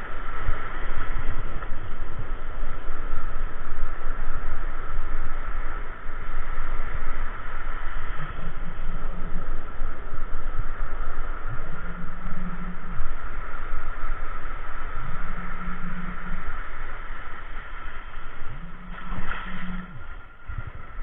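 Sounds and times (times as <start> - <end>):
low hum: 0.0 - 21.0
wind buffeting microphone: 0.0 - 21.0.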